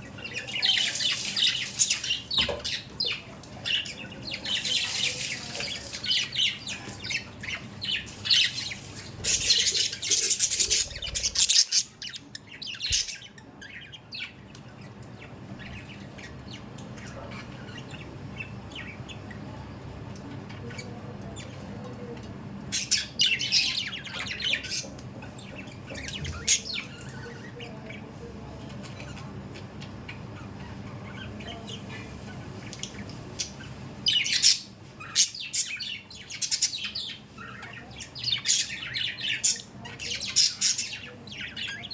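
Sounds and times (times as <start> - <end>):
budgerigars chirping and squawking: 0.0 - 19.2, 20.5 - 41.9.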